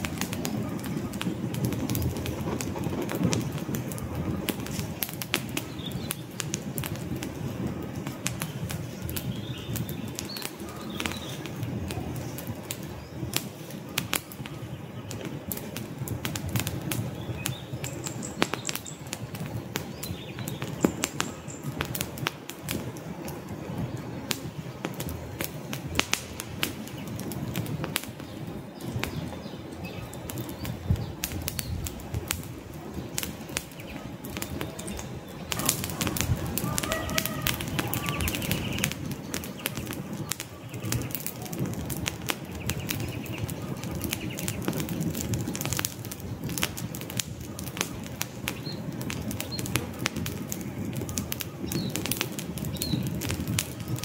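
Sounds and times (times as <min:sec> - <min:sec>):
campfire crackling and popping: 0:00.0 - 0:54.0
flames rushing: 0:00.0 - 0:54.0.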